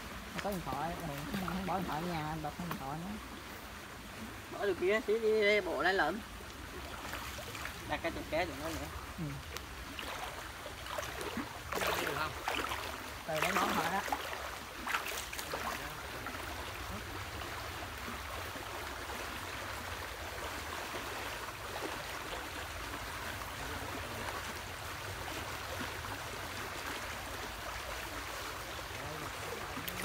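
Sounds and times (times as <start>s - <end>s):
water sloshing around wading legs: 0.0s - 30.0s.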